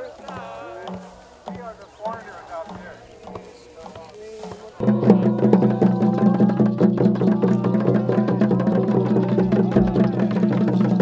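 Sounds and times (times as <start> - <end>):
rapid clicking beats: 0.0 - 11.0
voices singing: 0.0 - 11.0.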